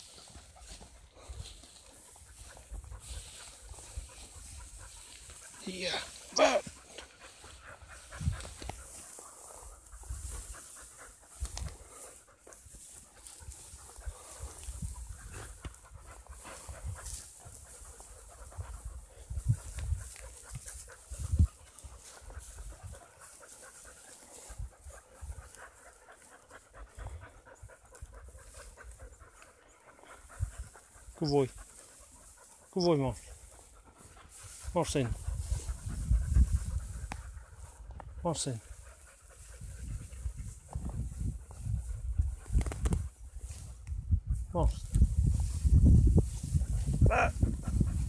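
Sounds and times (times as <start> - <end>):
dry grass rustling: 0.0 - 26.7, 27.8 - 48.0
panting breaths: 0.0 - 44.4, 45.0 - 48.0.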